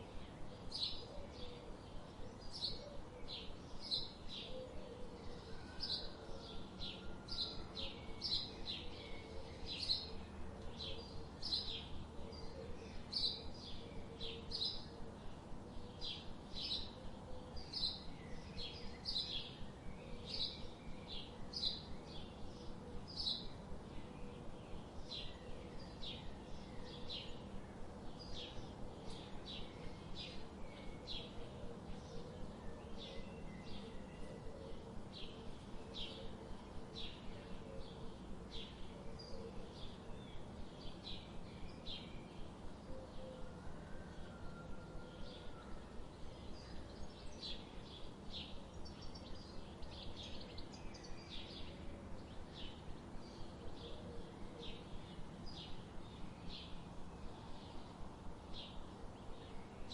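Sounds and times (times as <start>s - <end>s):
faint background noise: 0.0s - 59.9s.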